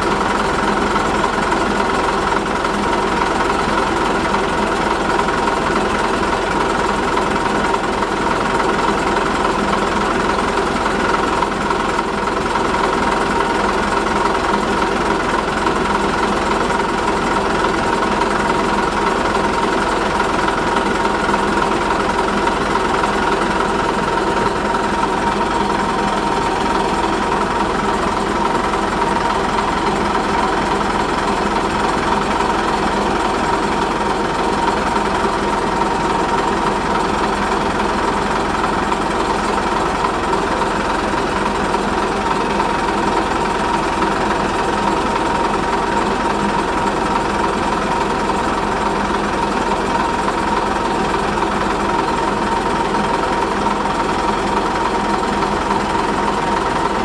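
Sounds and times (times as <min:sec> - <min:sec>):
locomotive diesel engine drone: 0:00.0 - 0:57.0.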